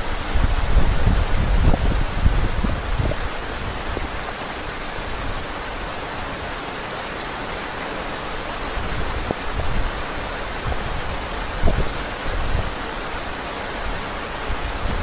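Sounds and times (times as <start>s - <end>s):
gusts of wind: 0.0s - 15.0s
heavy rain hissing: 0.0s - 15.0s.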